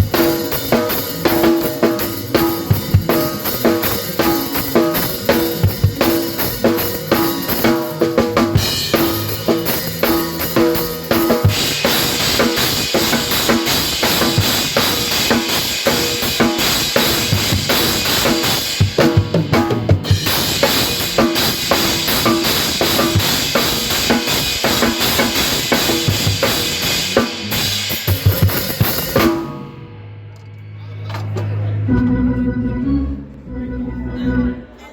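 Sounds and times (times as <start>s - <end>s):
drum kit hits: 0.0s - 30.1s
gospel band playing: 0.0s - 30.3s.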